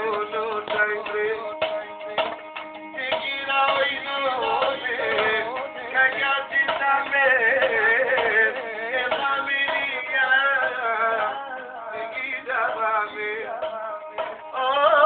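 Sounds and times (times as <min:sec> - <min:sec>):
background music: 0:00.0 - 0:15.0
man singing ornamented melody: 0:00.0 - 0:15.0.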